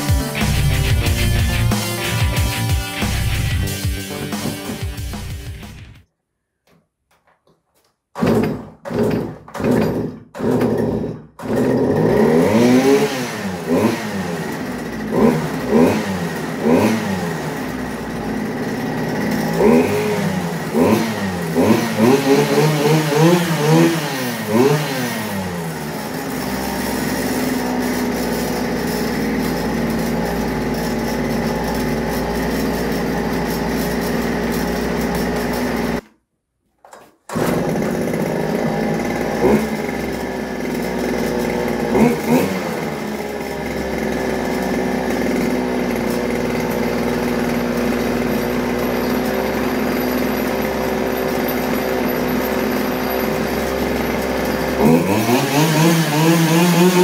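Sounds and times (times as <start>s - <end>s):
brush cutter engine revving: 0.0s - 5.8s, 8.2s - 36.1s, 37.3s - 57.0s.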